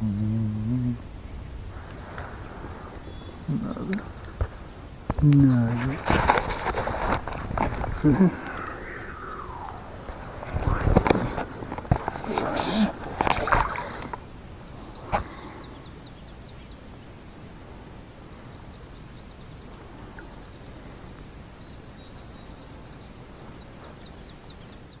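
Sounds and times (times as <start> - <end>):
outdoor background hiss: 0.0 - 25.0
small birds chirping: 0.0 - 25.0.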